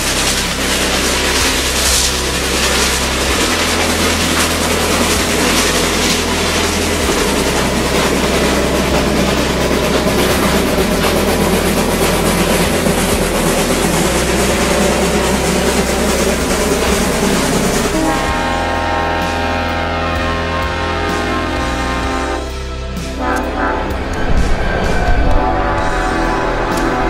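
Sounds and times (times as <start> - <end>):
steam train machinery rushing: 0.0 - 27.0.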